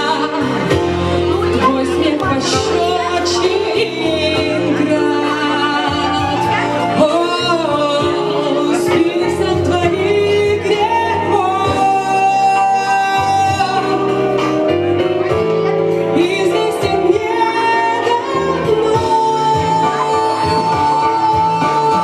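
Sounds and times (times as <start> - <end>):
instrumental accompaniment: 0.0 - 22.0
woman singing blues: 0.0 - 22.0.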